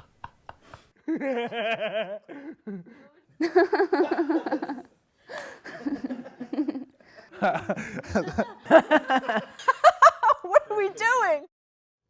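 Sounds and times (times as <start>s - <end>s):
people laughing: 0.6s - 11.4s.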